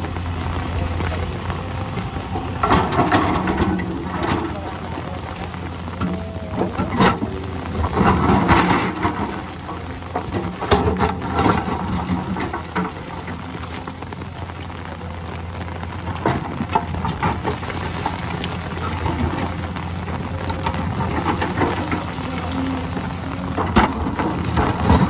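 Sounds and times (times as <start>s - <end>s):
excavator diesel engine running: 0.0s - 25.0s
soil and rock knocking: 0.0s - 25.0s.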